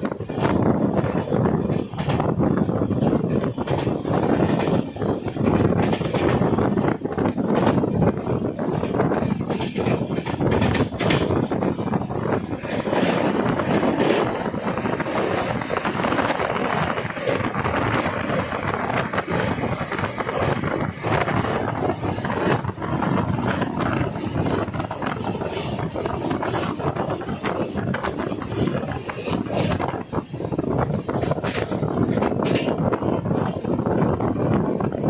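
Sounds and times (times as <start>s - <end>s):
train wheels rumbling on rails: 0.0s - 35.0s
wheel clicks and knocks: 0.0s - 35.0s
wind buffeting microphone: 0.0s - 35.0s.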